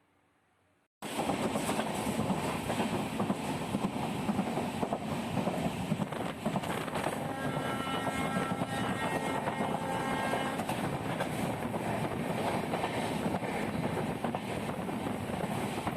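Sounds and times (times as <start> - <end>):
train rumbling along track: 1.0 - 15.9
train wheels clacking: 1.0 - 15.9.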